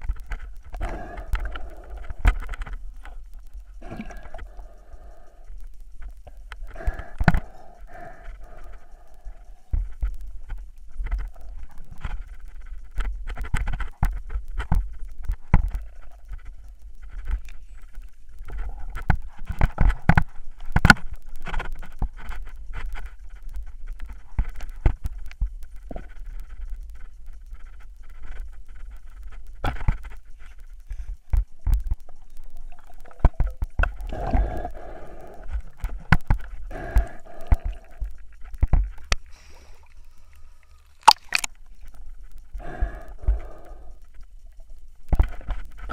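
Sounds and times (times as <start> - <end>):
underwater low rumble: 0.0 - 45.9
underwater sharp clicks and knocks: 0.0 - 45.9.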